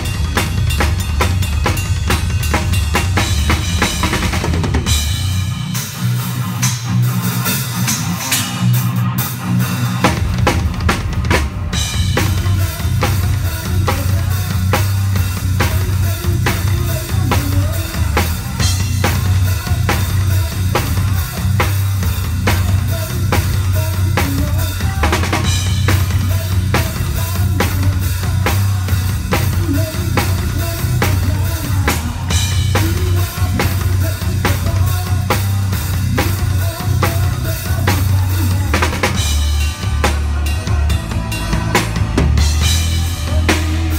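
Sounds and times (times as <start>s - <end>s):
drum kit playing driving beat: 0.0s - 43.9s
sustained low bass: 0.0s - 43.9s.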